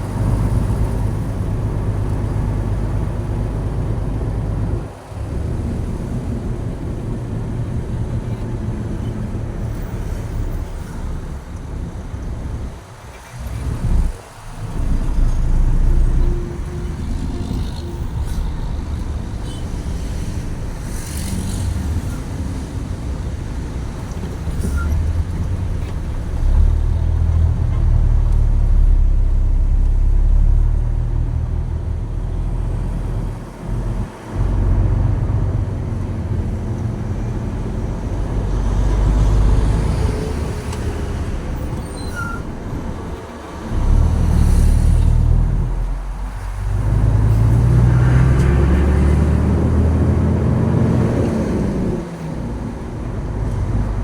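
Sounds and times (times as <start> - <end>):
road noise: 0.0 - 54.0
truck diesel engine rumble: 0.0 - 54.0.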